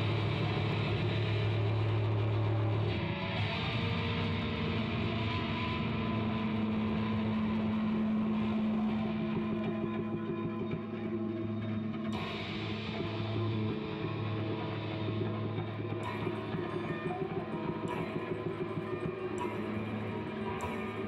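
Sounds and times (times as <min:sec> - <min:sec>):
electric guitar droning tones: 0:00.0 - 0:21.0.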